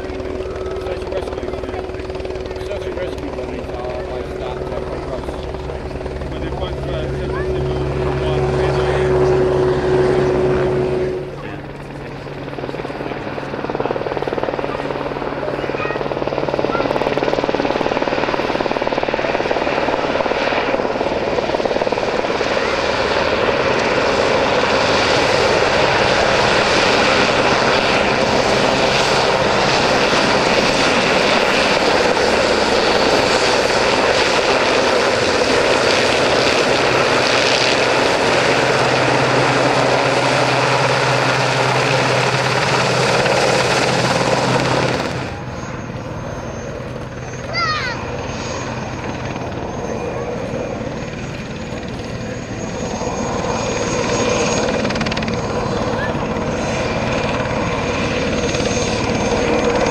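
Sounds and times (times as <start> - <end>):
helicopter rotor and turbine noise: 0.0 - 59.9
second helicopter: 0.0 - 59.9.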